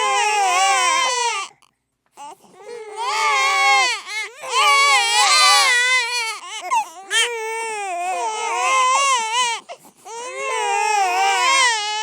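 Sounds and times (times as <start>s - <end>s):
infant crying: 0.0s - 12.0s.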